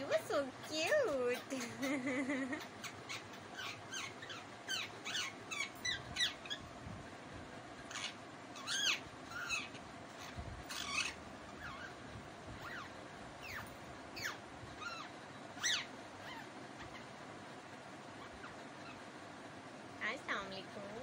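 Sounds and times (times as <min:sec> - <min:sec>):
parakeet chattering: 0:00.0 - 0:06.8, 0:07.8 - 0:17.4, 0:18.1 - 0:19.2.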